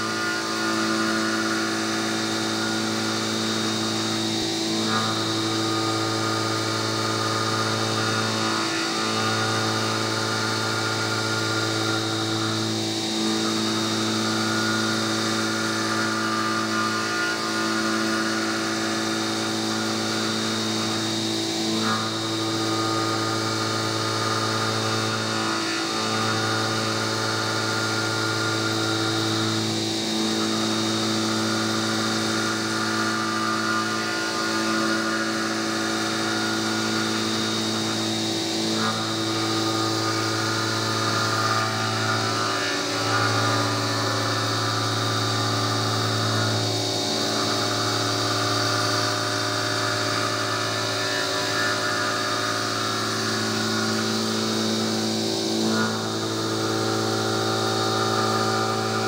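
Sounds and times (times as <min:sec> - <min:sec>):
milling machine hum with hiss: 0:00.0 - 0:59.0.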